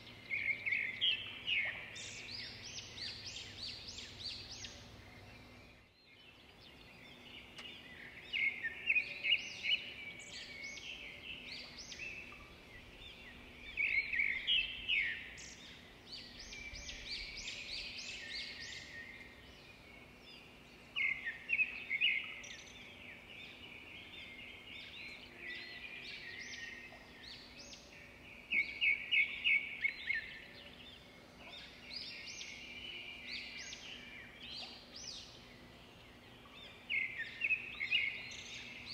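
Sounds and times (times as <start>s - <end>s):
birds chirping: 0.0s - 38.9s
rapid trilled birdsong: 0.0s - 38.9s.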